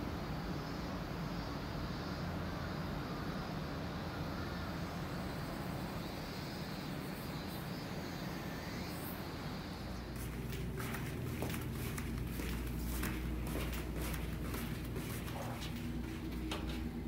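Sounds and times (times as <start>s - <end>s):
low rumble of town ambience: 0.0s - 17.0s.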